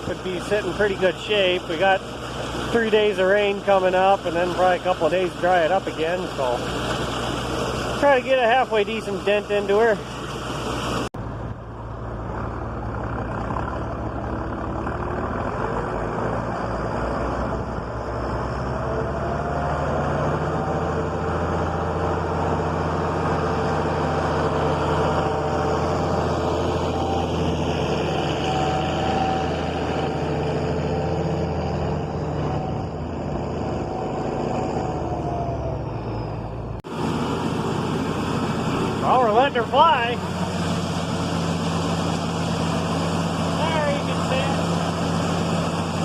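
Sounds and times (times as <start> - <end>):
thin whine: 0.0 - 46.0
tractor engine running under load: 0.0 - 46.0.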